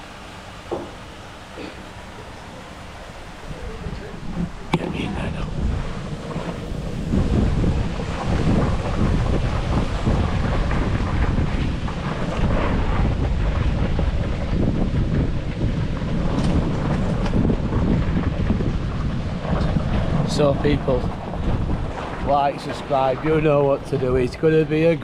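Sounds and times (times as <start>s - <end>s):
wind blowing across microphone: 2.2s - 25.0s.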